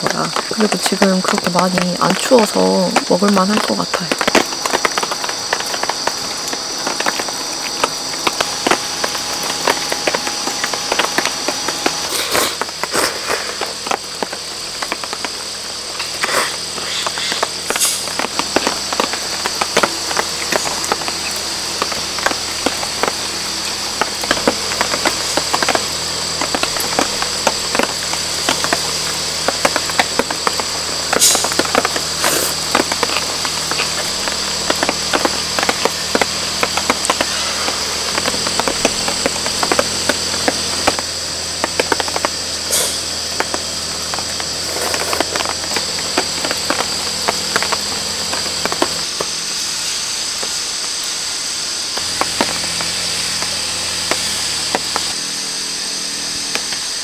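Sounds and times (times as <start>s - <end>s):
high insect drone: 0.0s - 57.0s
rain pattering on a tarp: 0.0s - 57.0s.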